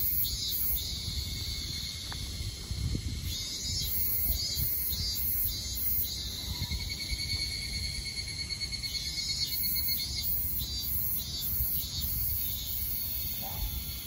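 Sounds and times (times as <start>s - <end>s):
cicadas calling: 0.0s - 14.0s.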